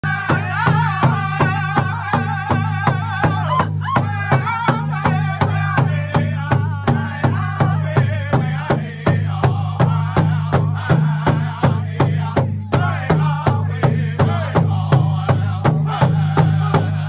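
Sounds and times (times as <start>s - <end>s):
group singing: 0.0s - 17.0s
large hand drum beat: 0.0s - 17.0s.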